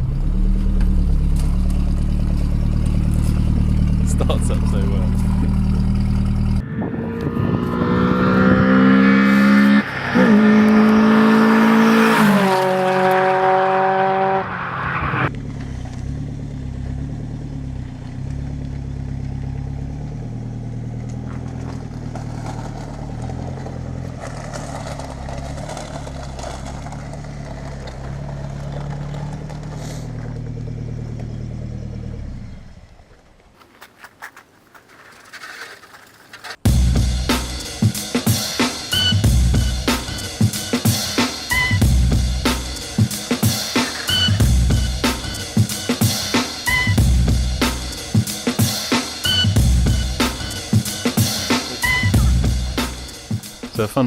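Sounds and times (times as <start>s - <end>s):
truck engine revving: 0.0s - 32.9s, 33.6s - 54.0s.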